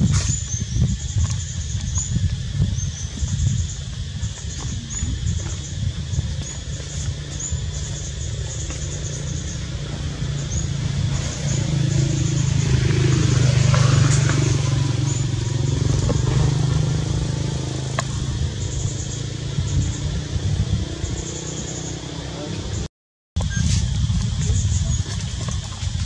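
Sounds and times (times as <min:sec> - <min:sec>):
vehicle engine drone: 0:00.0 - 0:26.0.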